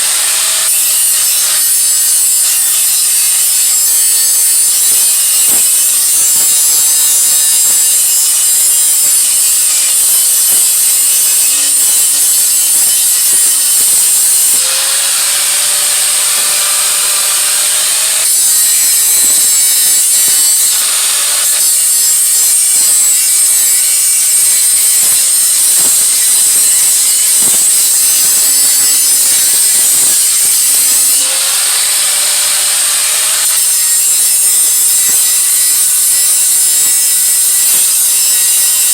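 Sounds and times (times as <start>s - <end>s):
cutting tool rasping on steel: 0.0s - 38.9s.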